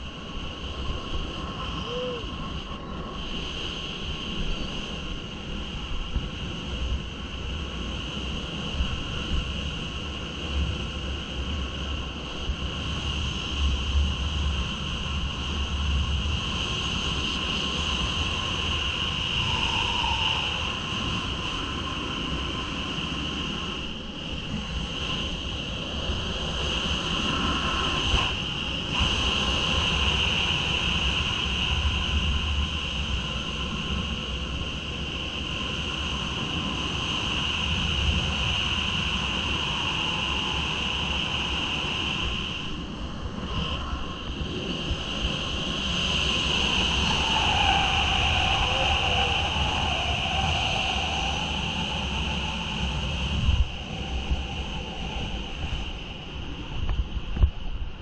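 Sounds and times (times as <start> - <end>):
wind rushing over microphone: 0.0 - 58.0
low buffeting rumble: 8.8 - 58.0.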